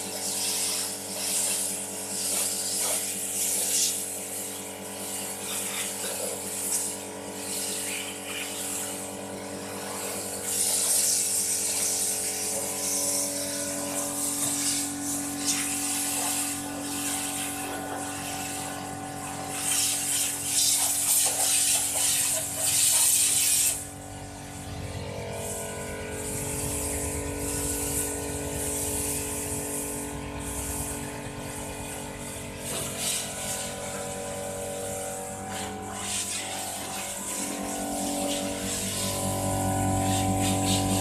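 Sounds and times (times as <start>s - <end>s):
pump humming: 0.0s - 41.0s
water spraying on a vehicle: 0.0s - 41.0s.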